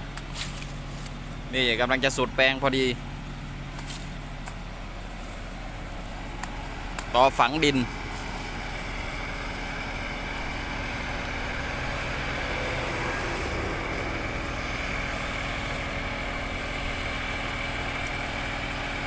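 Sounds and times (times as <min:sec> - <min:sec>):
harvester engine with high whine: 0:00.0 - 0:19.0.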